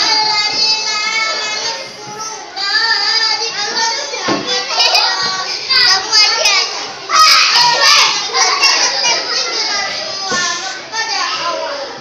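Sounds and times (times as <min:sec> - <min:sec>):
boy chanting in sing-song voice: 0:00.0 - 0:12.0.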